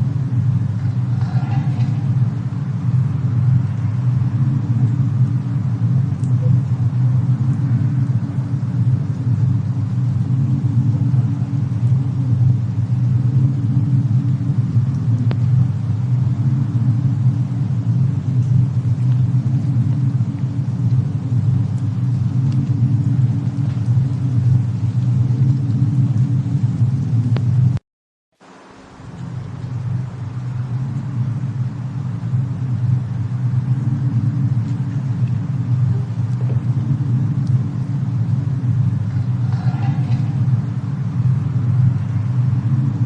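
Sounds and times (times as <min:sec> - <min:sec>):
deep rumble: 0:00.0 - 0:27.8, 0:28.5 - 0:43.0
faint fire crackles: 0:00.0 - 0:27.8, 0:28.4 - 0:43.0.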